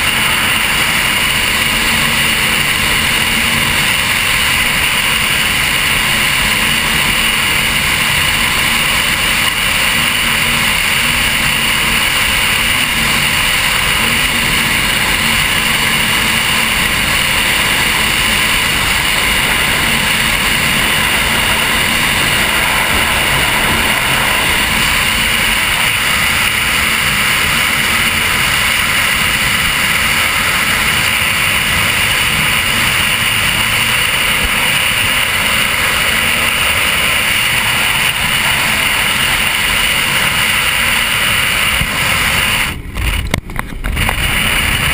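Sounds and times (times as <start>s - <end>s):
boat engine drone: 0.0s - 44.9s
wind and water rushing: 0.0s - 44.9s.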